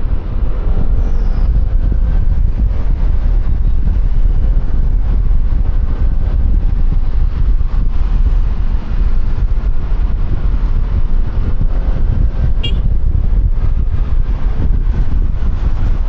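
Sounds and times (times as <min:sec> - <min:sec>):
traffic and road noise: 0:00.0 - 0:16.0
wind buffeting microphone: 0:00.0 - 0:16.0.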